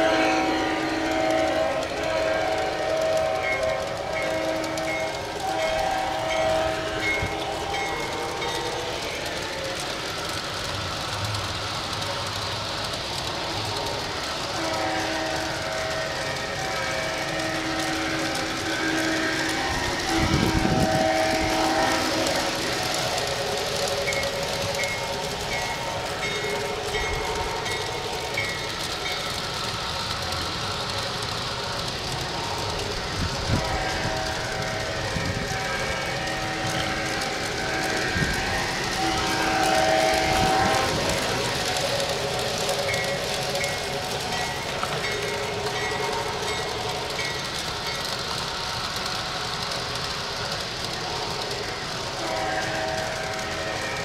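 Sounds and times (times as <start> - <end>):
model trains rolling on track: 0.0 - 54.0.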